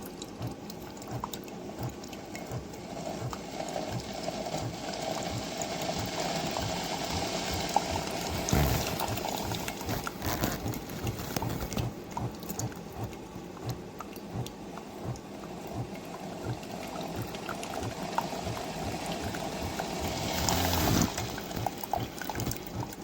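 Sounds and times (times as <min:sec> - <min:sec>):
coffee maker pump pulsing: 0:00.0 - 0:23.0
hot water bubbling and gurgling: 0:00.0 - 0:23.0.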